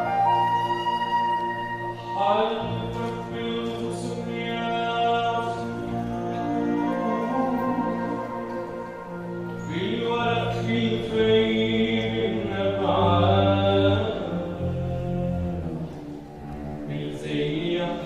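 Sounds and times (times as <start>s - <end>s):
instrumental ensemble: 0.0s - 18.0s
man singing: 2.0s - 8.3s, 9.1s - 16.0s, 16.6s - 18.0s.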